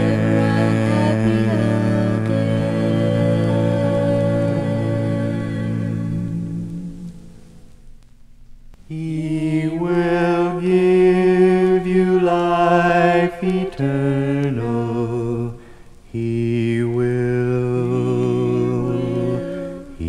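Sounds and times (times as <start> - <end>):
gospel music from vinyl record: 0.0 - 20.0.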